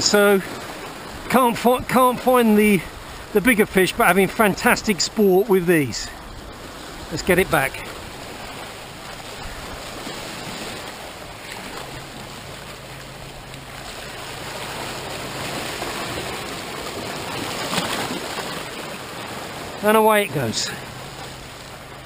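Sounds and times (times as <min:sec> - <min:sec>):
waves washing over rocks: 0:00.0 - 0:22.0.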